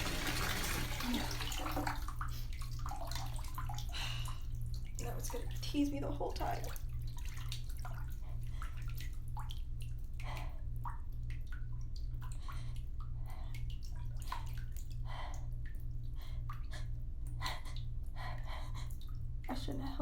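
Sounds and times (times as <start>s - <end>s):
water running into bathtub: 0.0s - 20.0s
water splashes and drips: 0.0s - 20.0s.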